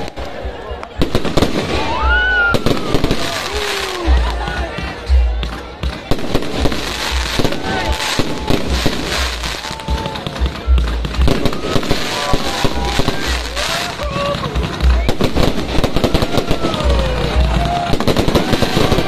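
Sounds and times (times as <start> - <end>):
fireworks booming: 0.0 - 19.0
fireworks crackling and popping: 0.0 - 19.0
music: 0.0 - 19.0.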